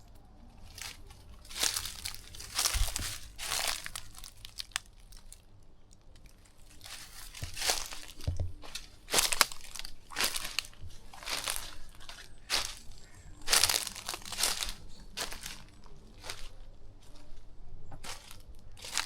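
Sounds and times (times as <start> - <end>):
footsteps crunching through undergrowth: 0.6 - 5.4, 6.4 - 19.0.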